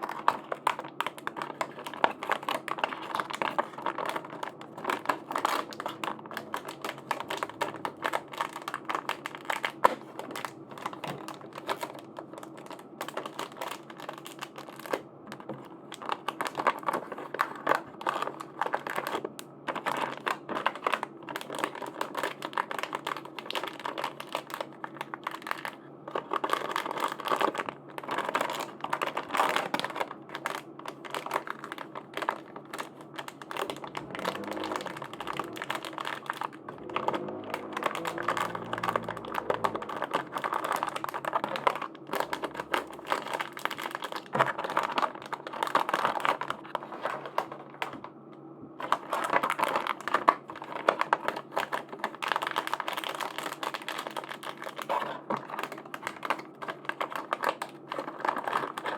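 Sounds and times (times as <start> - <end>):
clicks and plastic crinkles: 0.0 - 58.9.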